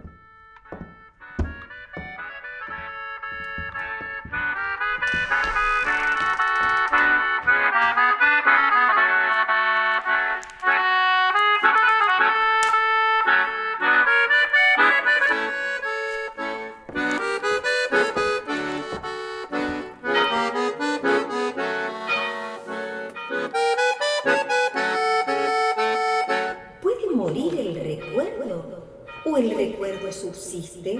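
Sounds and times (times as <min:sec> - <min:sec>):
reed instrument melody: 0:00.0 - 0:30.5.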